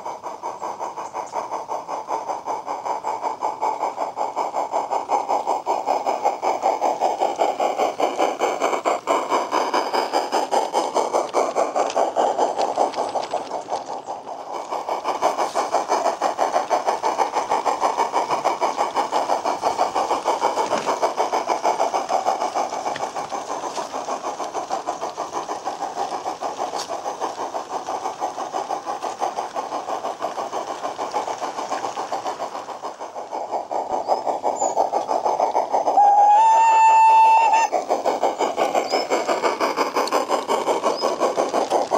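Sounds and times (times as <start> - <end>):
model steam locomotive chuffing: 0.0 - 41.9.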